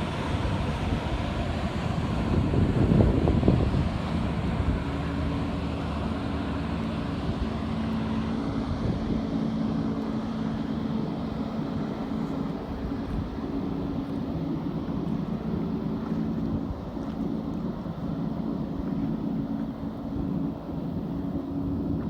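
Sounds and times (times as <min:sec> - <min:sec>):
motorboat engine droning: 0:00.0 - 0:22.0
wind rumbling on microphone: 0:00.0 - 0:22.0.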